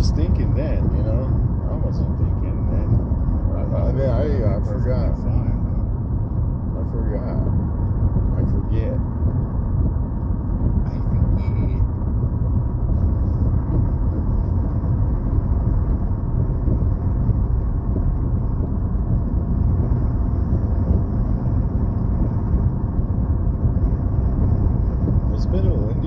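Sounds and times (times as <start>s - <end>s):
car rumble inside cabin: 0.0s - 26.0s
road and wind noise: 0.0s - 26.0s.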